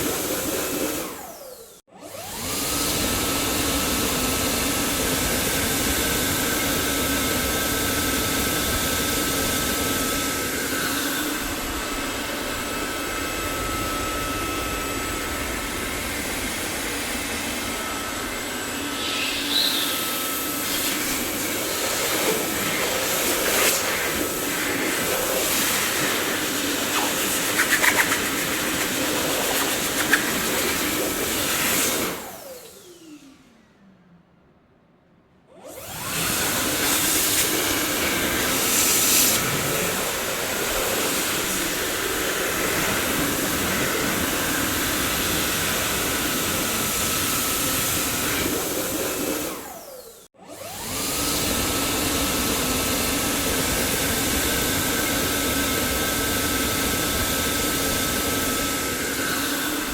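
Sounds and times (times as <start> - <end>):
vacuum cleaner running: 0.0 - 33.8, 35.5 - 59.9.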